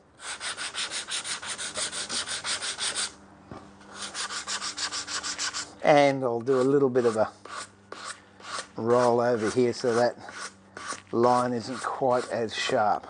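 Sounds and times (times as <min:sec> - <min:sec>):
sandpaper rubbing on wood: 0:00.2 - 0:03.2, 0:03.9 - 0:05.7, 0:06.5 - 0:12.7.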